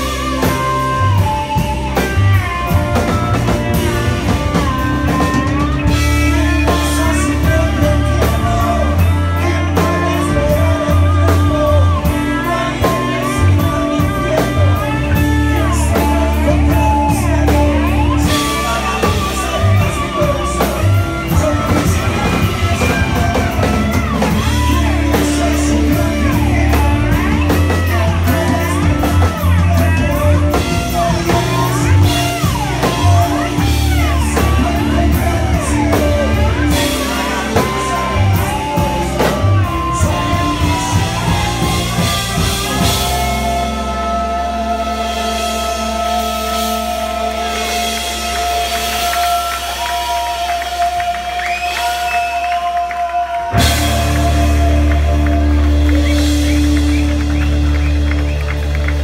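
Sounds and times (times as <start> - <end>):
drum kit beat: 0.0 - 59.0
electric guitar: 0.0 - 59.0
person singing: 0.0 - 59.0.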